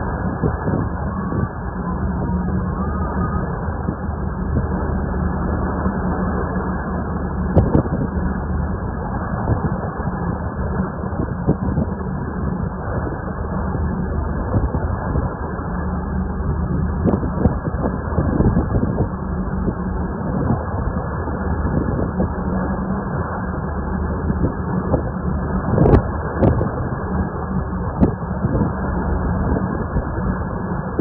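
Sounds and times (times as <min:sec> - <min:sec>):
boat engine humming: 0:00.0 - 0:31.0
wind buffeting microphone: 0:00.0 - 0:31.0.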